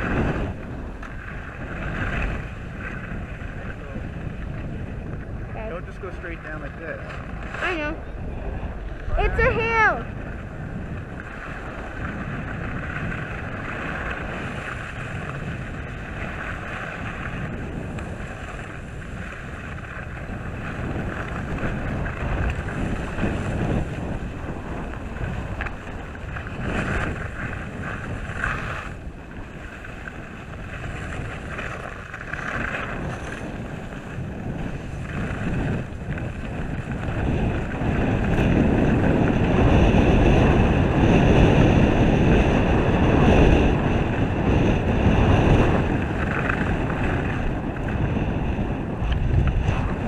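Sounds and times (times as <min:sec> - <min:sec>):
skis scraping over snow: 0:00.0 - 0:50.0
wind on microphone: 0:00.0 - 0:50.0.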